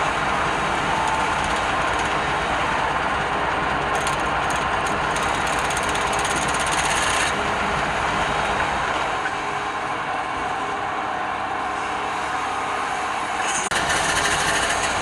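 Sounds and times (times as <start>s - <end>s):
wood lathe cutting spinning wood: 0.0s - 9.8s, 11.8s - 15.0s.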